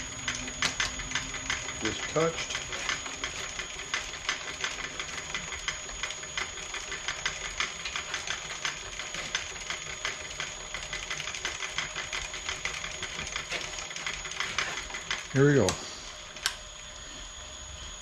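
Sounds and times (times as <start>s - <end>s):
fast irregular ticking from drive: 0.0s - 16.9s
milling machine hum: 0.0s - 18.0s.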